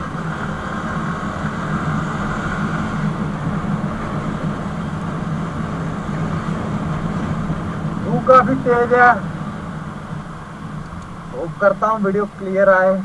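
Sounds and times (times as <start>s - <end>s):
wind noise rushing: 0.0s - 12.0s.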